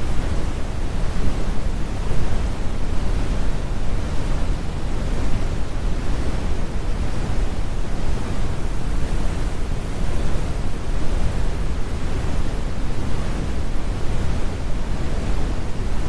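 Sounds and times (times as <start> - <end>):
brown noise rumble: 0.0 - 16.0.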